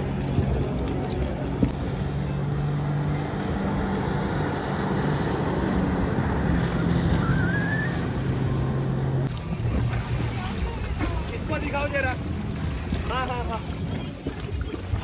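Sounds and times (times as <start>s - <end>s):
motorboat engine: 0.0s - 15.0s
rushing wind and water: 0.0s - 15.0s.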